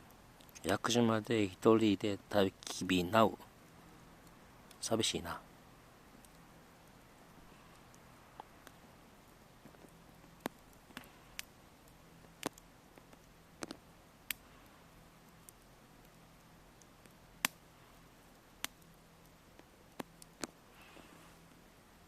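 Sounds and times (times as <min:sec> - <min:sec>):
campfire crackling and popping: 0:00.0 - 0:22.0
faint steady hiss: 0:00.0 - 0:22.0.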